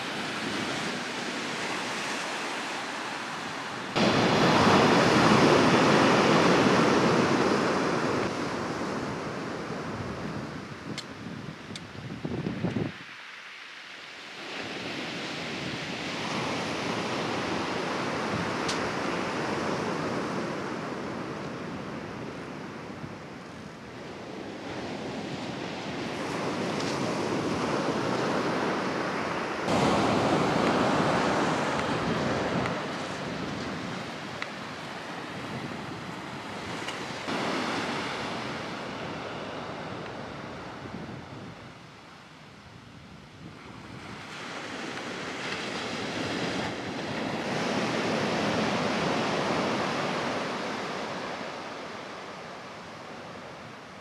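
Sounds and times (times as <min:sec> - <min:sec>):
waves breaking on beach: 0:00.0 - 0:54.0.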